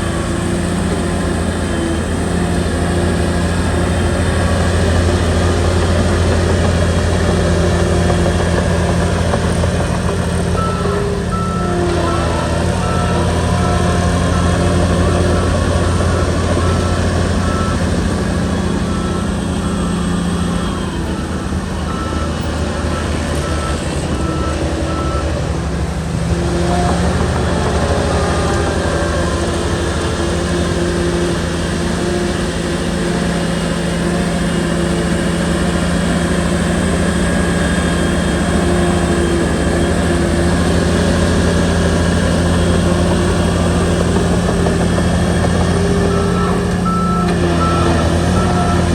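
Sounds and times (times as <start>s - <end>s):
reversing alarm beeping: 0.0s - 25.5s, 32.1s - 48.9s
bulldozer diesel engine running: 0.0s - 48.9s.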